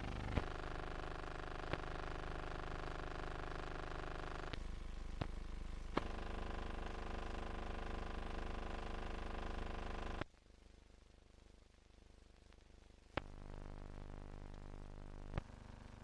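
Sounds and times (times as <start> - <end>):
film soundtrack buzzing hum: 0.0 - 16.0.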